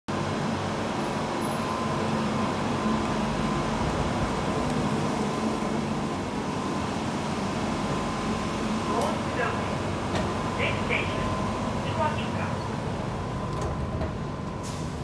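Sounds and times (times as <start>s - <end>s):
train mechanical hum: 0.1s - 15.0s.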